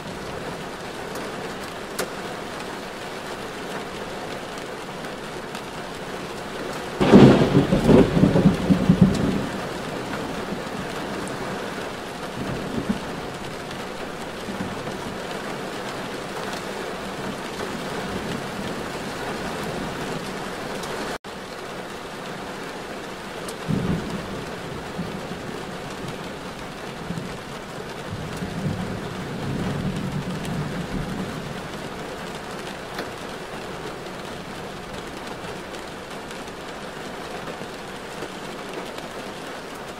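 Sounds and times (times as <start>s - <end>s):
rain on a moving car: 0.0s - 39.9s.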